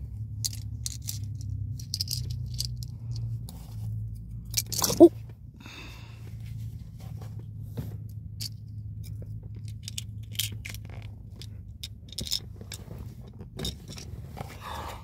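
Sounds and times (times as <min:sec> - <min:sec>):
low car hum: 0:00.0 - 0:15.0.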